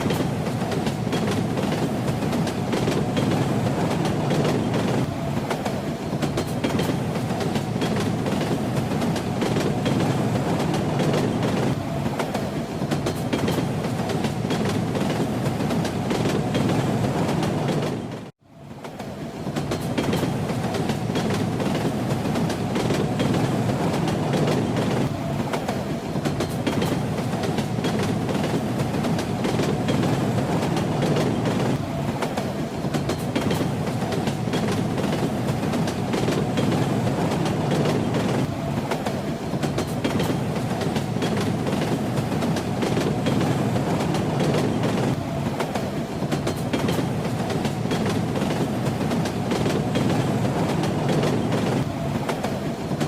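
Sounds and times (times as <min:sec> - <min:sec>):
train rumbling: 0:00.0 - 0:53.0
wheels clattering on rails: 0:00.0 - 0:53.0.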